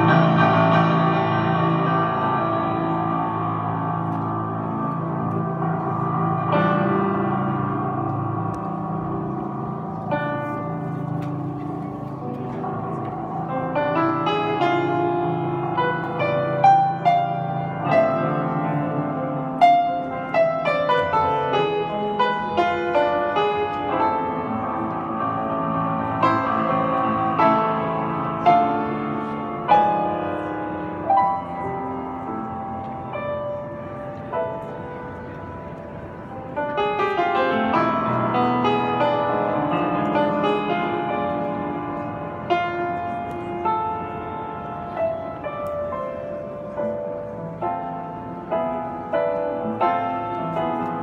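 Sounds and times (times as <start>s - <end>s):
grand piano: 0.0s - 51.0s.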